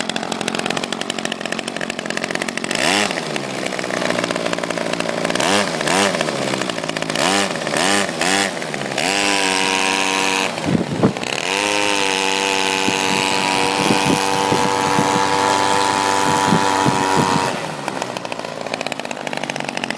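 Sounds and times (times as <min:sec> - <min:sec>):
weed-whacker engine revving: 0:00.0 - 0:19.9.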